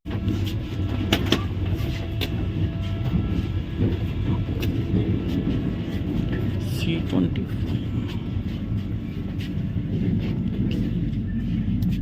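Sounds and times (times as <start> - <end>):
train rumble: 0.1 - 12.0.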